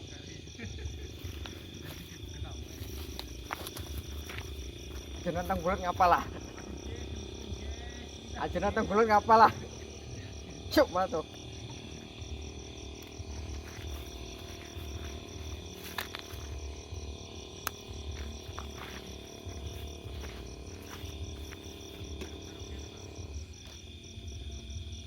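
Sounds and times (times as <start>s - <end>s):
crickets chirping: 0.0s - 25.0s
shrill insect drone: 0.0s - 25.0s.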